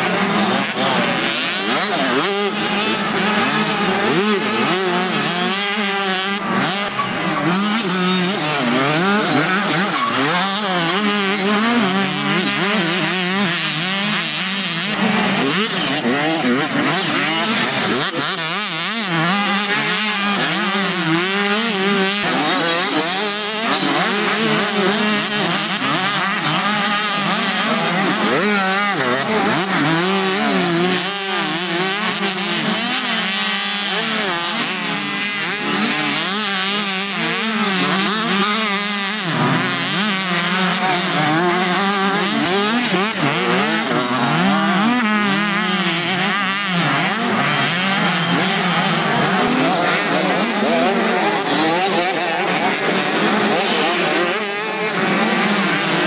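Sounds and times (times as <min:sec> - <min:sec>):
motocross motorcycles revving: 0:00.0 - 0:56.0.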